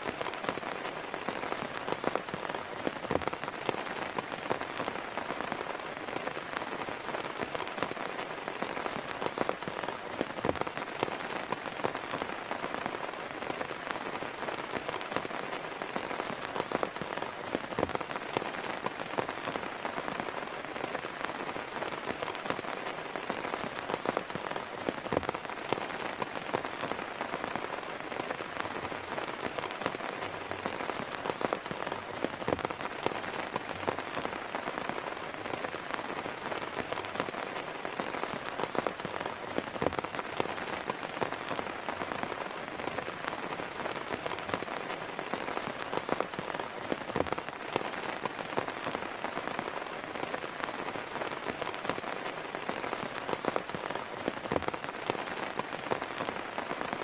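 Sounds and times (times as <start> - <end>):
heavy rain falling: 0.0 - 57.0
raindrops tapping a surface: 0.0 - 57.0.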